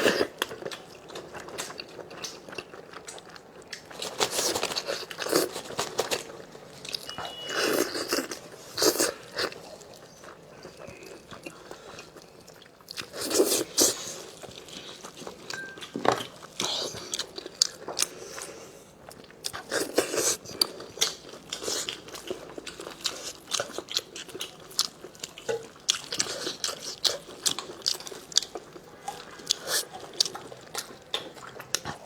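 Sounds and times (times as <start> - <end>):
wet chewing: 0.0 - 32.0.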